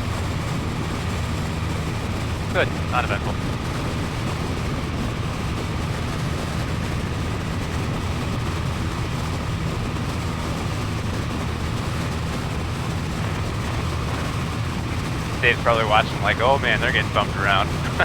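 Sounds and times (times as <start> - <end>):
light airplane engine and propeller: 0.0 - 18.0.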